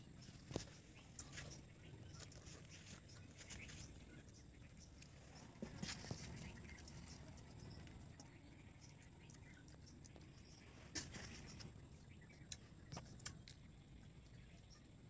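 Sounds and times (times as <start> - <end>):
faint clicks and rustles: 0.0 - 14.9.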